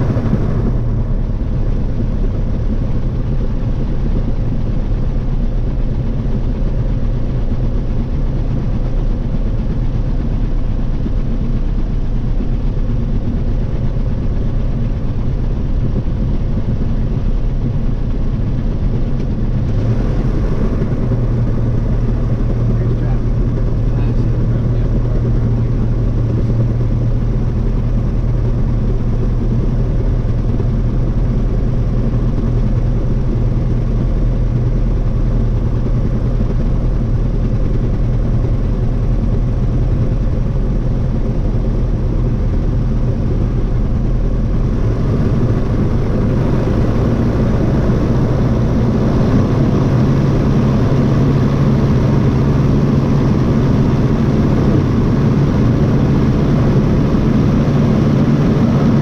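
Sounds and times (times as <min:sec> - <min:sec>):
light airplane engine running: 0:00.0 - 0:59.0.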